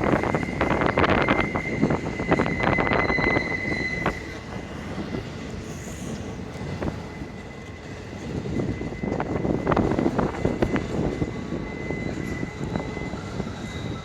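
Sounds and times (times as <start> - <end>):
train wheel squeal: 0.0 - 14.0.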